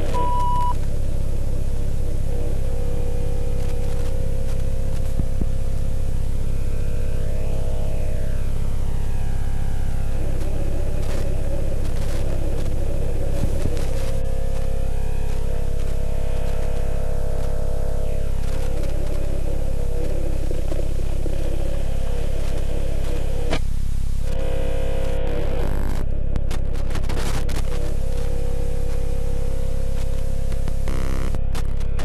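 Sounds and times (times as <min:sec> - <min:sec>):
static crackles: 0:00.0 - 0:32.0
steady low hum: 0:00.0 - 0:32.0
ominous droning music: 0:00.8 - 0:26.8, 0:27.6 - 0:32.0.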